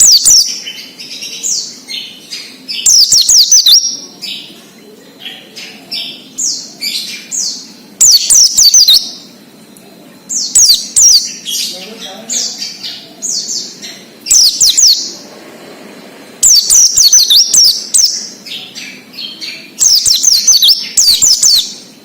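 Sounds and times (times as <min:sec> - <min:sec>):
bird rapid high chirping: 0:00.0 - 0:04.6, 0:05.2 - 0:09.4, 0:10.3 - 0:15.3, 0:16.4 - 0:22.0.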